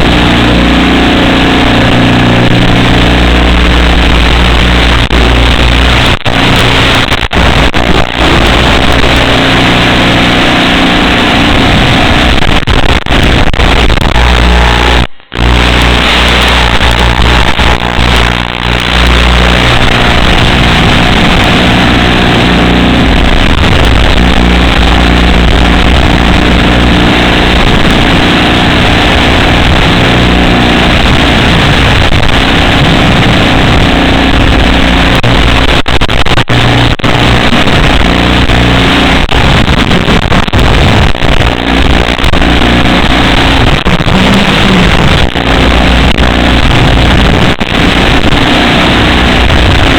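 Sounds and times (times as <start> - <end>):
drone propellers buzzing: 0.0 - 49.9
rushing noise: 0.0 - 49.9.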